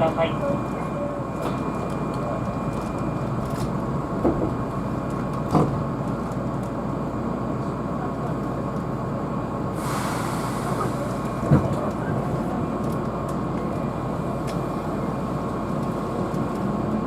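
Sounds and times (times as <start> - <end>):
train rumble from inside car: 0.0 - 17.0.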